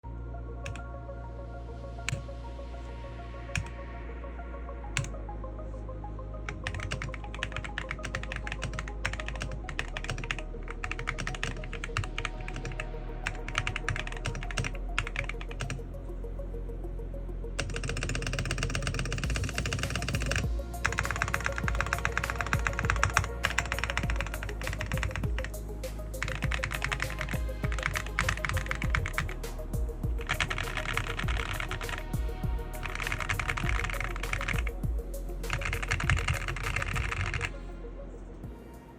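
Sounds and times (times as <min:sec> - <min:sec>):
background music: 0:00.0 - 0:38.9.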